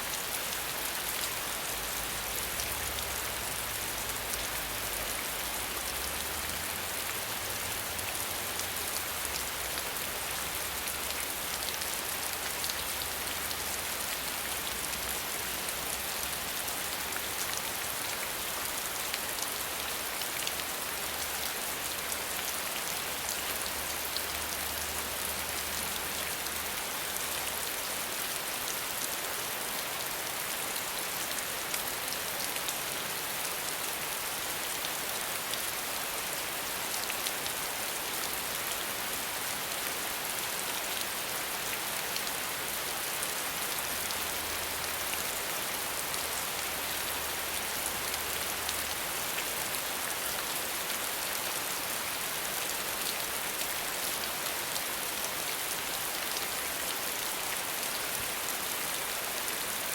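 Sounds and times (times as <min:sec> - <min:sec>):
rain hiss with drop patter: 0:00.0 - 0:59.9.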